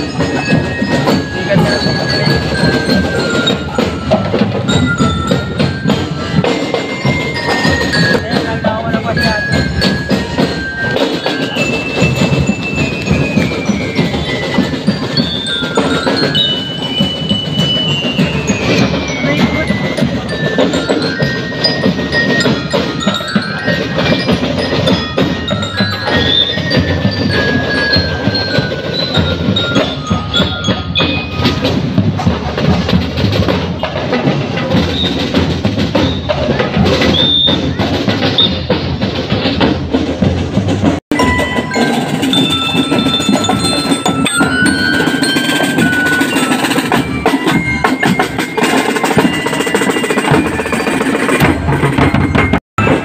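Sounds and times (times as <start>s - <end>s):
bell lyres playing melody: 0.0s - 53.0s
cymbals: 0.0s - 53.0s
marching drums: 0.0s - 53.0s.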